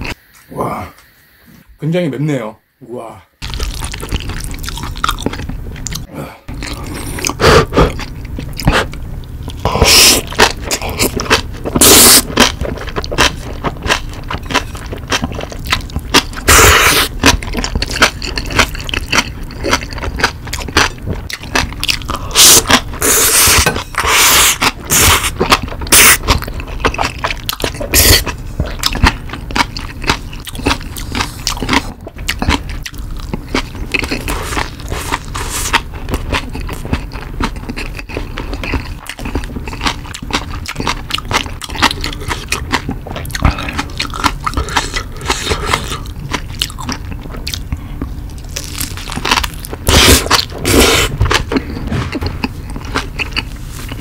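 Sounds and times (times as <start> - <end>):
chewing and crunching: 3.4 - 54.0.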